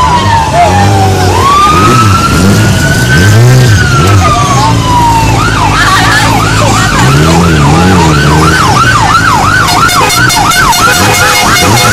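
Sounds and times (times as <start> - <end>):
electronic siren yelping: 0.0 - 11.9
vehicle engines running: 0.0 - 11.9.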